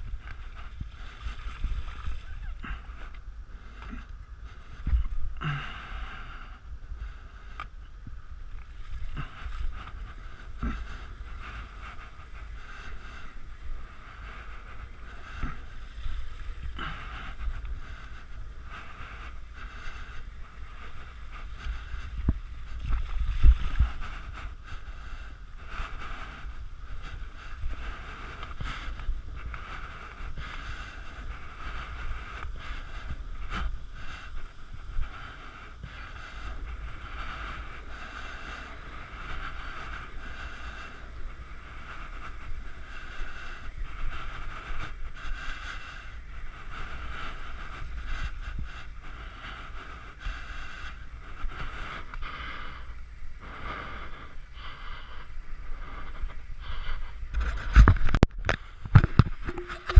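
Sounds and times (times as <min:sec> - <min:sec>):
bike rumble and hiss on trail: 0:00.0 - 0:59.9.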